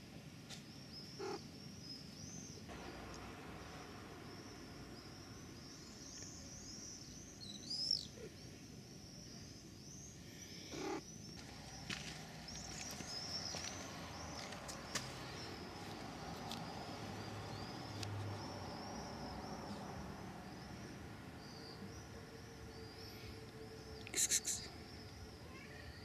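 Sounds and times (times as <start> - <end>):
small birds twittering: 0.5 - 26.0.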